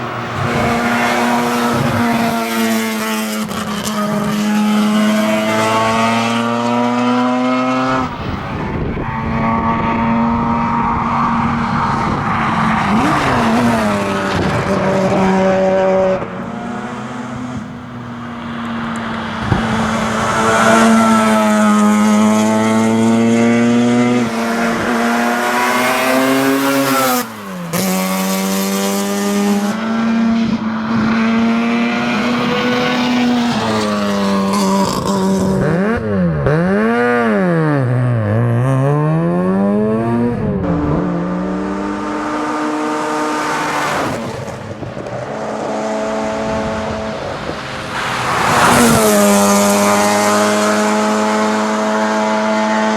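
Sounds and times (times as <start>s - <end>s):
rotary engine revving: 0.2s - 52.9s.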